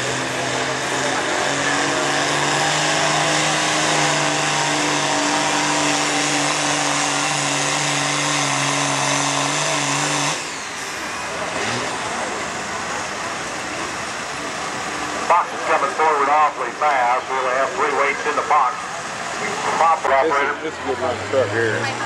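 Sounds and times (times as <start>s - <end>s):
diesel truck engine at full throttle: 0.0s - 22.0s.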